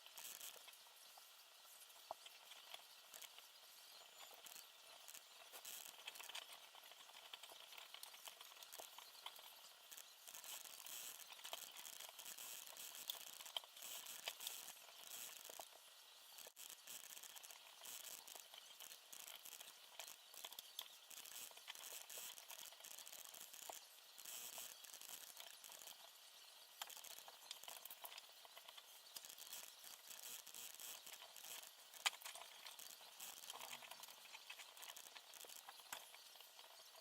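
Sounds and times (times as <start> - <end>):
small parts clicking and rustling: 0.0 - 15.8, 16.4 - 37.0.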